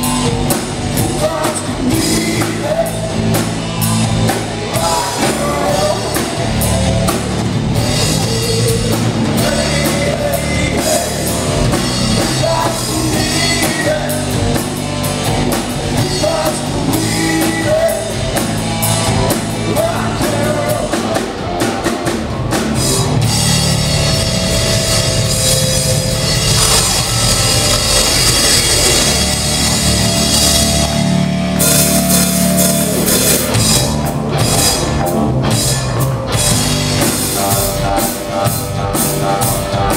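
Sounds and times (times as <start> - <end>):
rock band playing loudly: 0.0 - 39.9.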